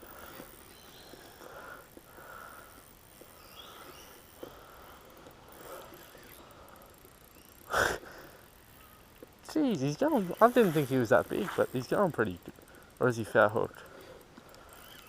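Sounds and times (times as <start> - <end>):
faint insects: 0.0 - 15.0
soft ticks: 0.3 - 7.7, 8.6 - 15.0.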